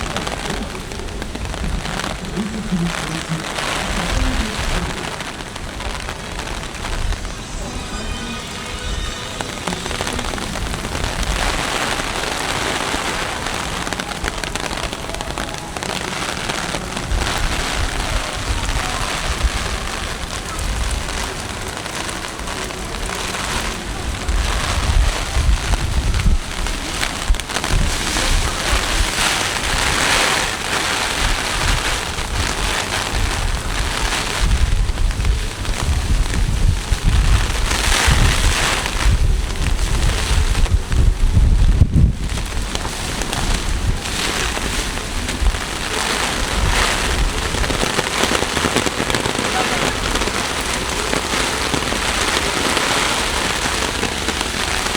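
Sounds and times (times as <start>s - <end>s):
heavy rain pouring: 0.0s - 54.9s
wind rumbling on microphone: 0.0s - 54.9s.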